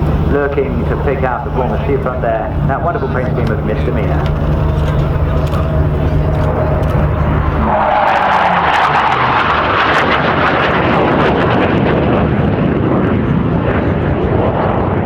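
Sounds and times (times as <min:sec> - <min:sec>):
jet flypast: 0:00.0 - 0:15.0.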